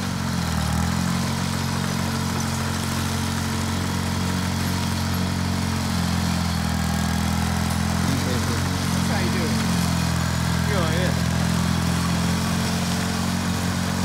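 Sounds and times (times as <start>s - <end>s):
bulldozer engine running: 0.0s - 14.0s.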